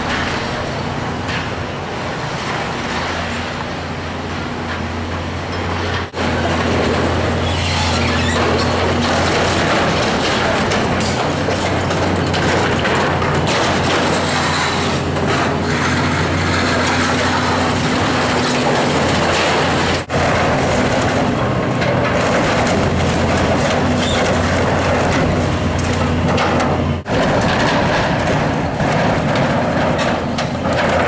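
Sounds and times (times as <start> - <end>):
excavator diesel engine running: 0.0 - 31.0
crunching of sheet metal: 4.7 - 31.0.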